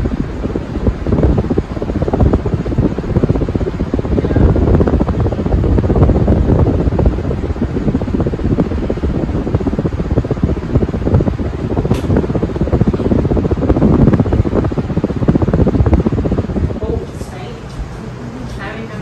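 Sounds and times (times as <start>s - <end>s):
ceiling fan fluttering rush: 0.0s - 19.0s.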